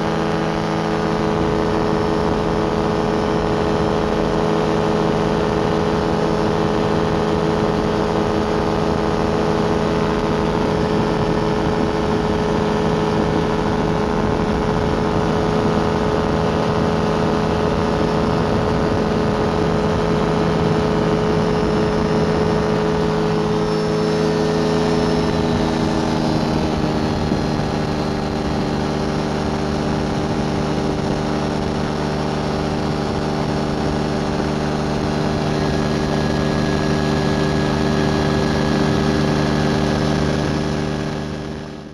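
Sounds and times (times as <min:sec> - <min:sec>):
ultralight aircraft engine running: 0:00.0 - 0:41.9.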